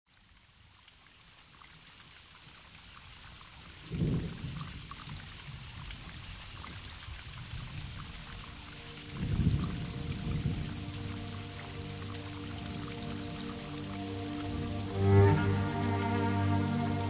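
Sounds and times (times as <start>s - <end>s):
rain falling: 0.1s - 17.0s.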